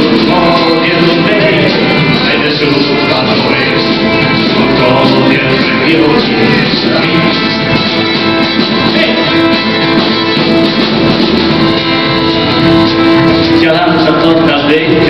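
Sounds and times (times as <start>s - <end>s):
drums: 0.0s - 15.0s
strummed acoustic guitars: 0.0s - 15.0s
upright bass: 0.0s - 15.0s.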